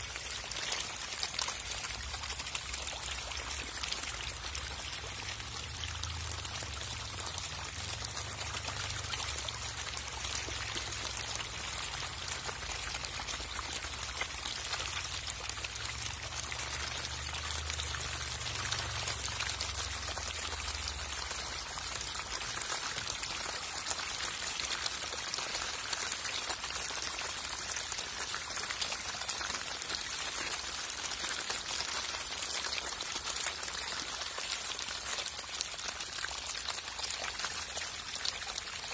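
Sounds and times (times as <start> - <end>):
fish splashing in water: 0.2 - 38.8.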